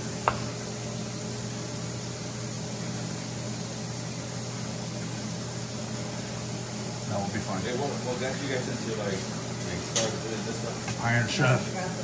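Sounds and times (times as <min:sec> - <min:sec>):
steady mechanical hum with hiss: 0:00.0 - 0:12.0.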